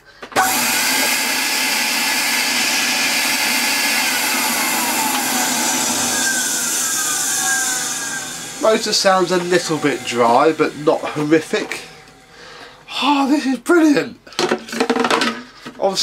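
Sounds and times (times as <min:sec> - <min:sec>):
vacuum cleaner running: 0:00.2 - 0:13.5.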